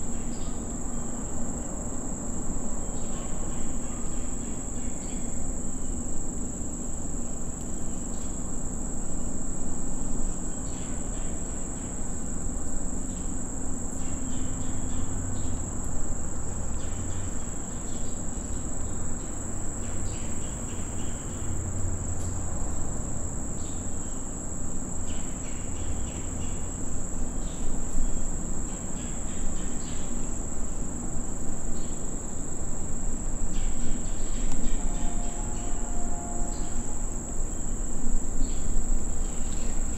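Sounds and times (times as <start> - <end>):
insect chirps: 0.0 - 39.9
insect drone: 0.0 - 39.9.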